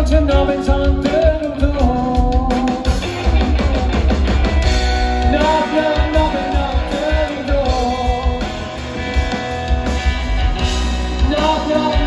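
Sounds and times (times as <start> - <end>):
live rock and roll band: 0.0 - 12.0.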